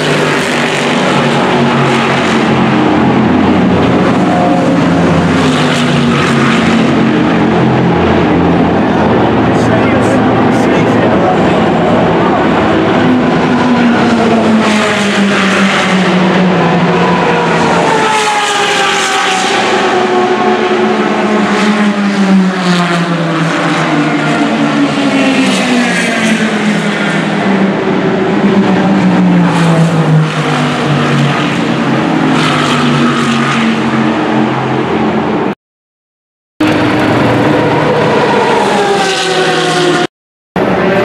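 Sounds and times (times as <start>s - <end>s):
race cars passing at speed: 0.0s - 35.6s, 36.6s - 41.0s.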